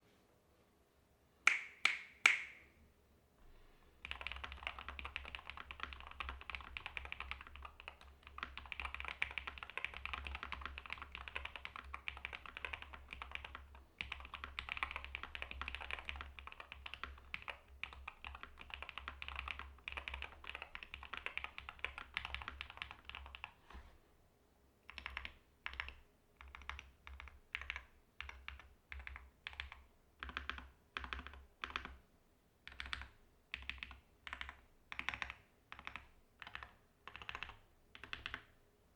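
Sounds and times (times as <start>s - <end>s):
keyboard typing: 4.0s - 23.6s, 24.9s - 32.0s, 32.7s - 38.6s.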